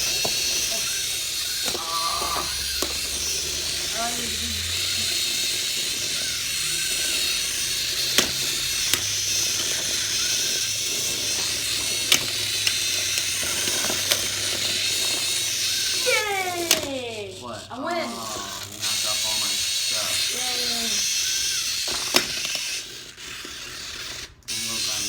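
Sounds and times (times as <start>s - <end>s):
robot spinning weapon whirring: 0.0s - 25.0s.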